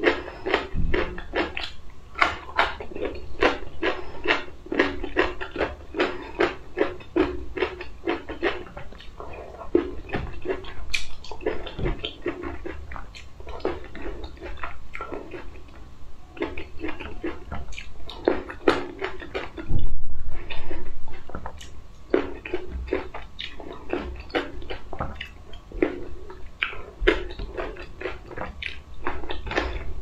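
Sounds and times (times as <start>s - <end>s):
chewing grapes: 0.0s - 30.0s.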